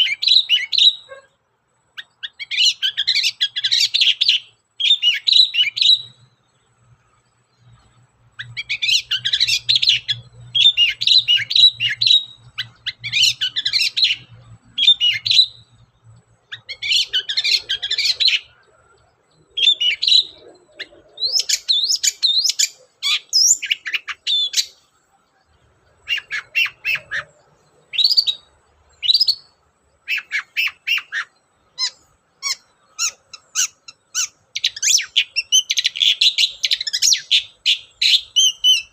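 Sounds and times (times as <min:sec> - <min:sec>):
bird scratchy chattering song: 0:00.0 - 0:01.2, 0:02.0 - 0:06.2, 0:08.3 - 0:15.7, 0:16.4 - 0:18.7, 0:19.5 - 0:25.0, 0:25.9 - 0:38.9.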